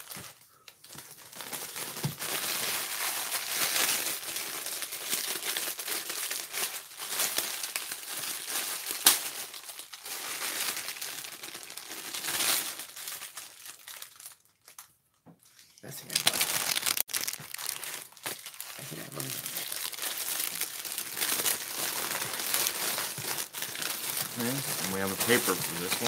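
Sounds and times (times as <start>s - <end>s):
sharp plastic crackle: 0.0s - 14.9s, 15.8s - 26.0s
plastic packaging crinkling: 0.0s - 26.0s.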